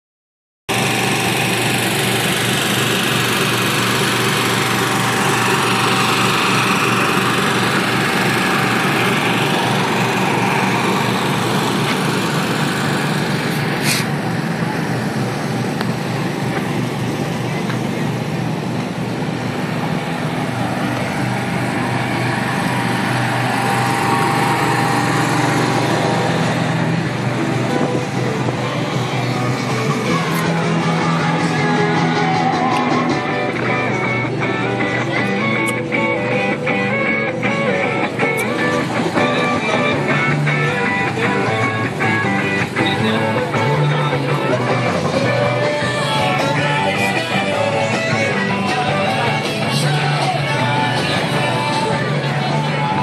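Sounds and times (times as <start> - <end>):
generators droning: 0.7 - 53.0.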